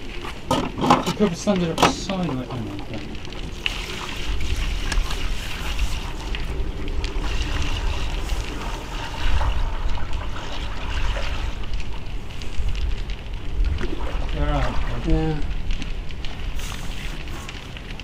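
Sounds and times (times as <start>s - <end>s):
wind buffeting microphone: 0.0s - 18.0s
syrup pouring and trickling: 2.1s - 17.9s.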